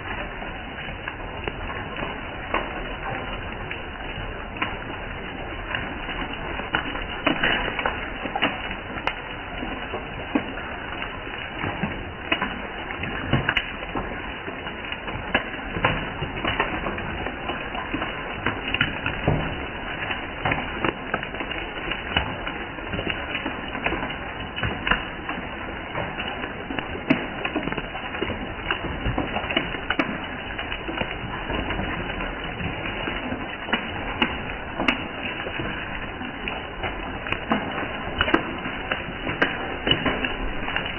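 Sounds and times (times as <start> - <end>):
raindrops tapping surfaces: 0.0 - 40.9
steady rainfall: 0.0 - 40.9.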